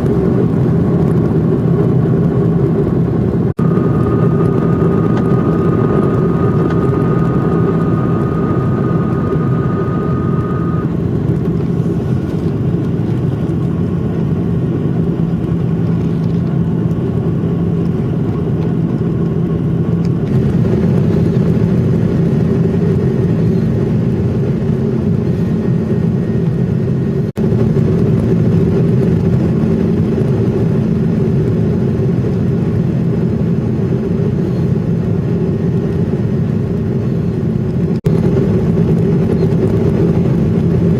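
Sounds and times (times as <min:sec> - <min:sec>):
jet engines in cabin: 0:00.0 - 0:40.9.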